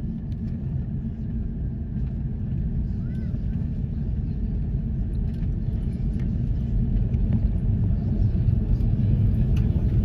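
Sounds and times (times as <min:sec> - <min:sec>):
airplane cabin low rumble: 0:00.0 - 0:10.0.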